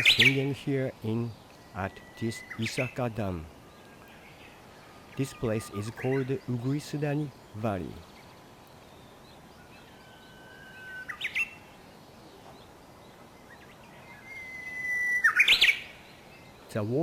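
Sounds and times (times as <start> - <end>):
bird singing whistled song: 0.0 - 11.6, 12.5 - 17.0.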